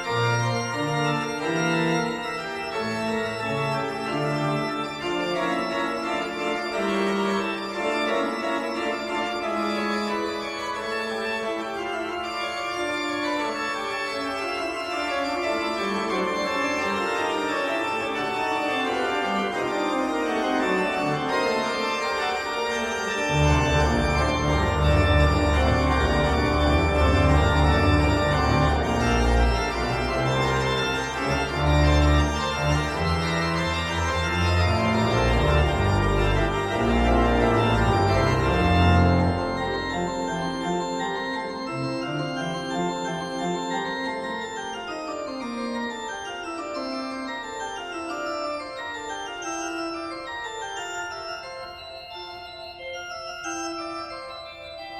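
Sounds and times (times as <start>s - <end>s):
organ-like keyboard music: 0.0s - 54.9s.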